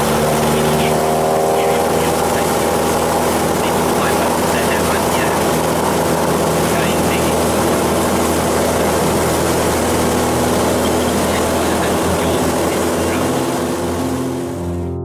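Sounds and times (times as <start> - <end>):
light aircraft engine and propeller: 0.0 - 14.9.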